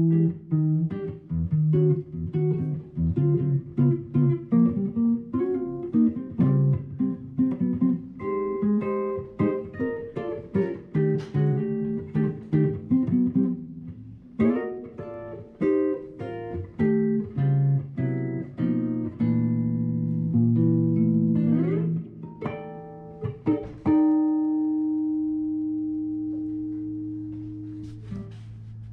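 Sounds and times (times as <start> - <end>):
acoustic guitar playing: 0.0 - 28.9.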